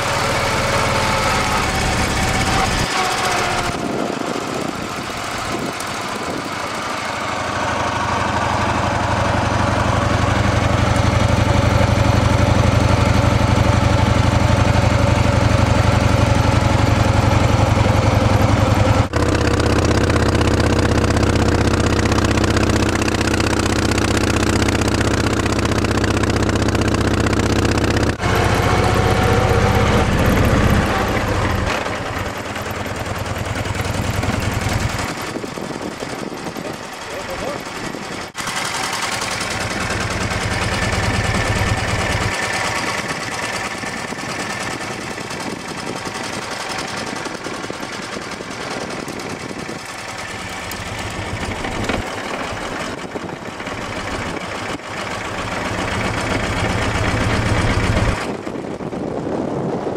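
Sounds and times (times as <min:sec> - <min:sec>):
car engine running under load: 0:00.0 - 0:59.9
road and wind noise: 0:00.0 - 0:59.9.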